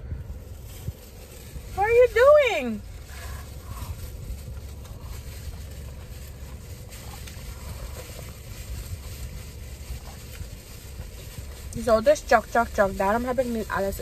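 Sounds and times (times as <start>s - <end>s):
car cabin rumble: 0.0s - 14.0s
rain on car: 1.6s - 14.0s.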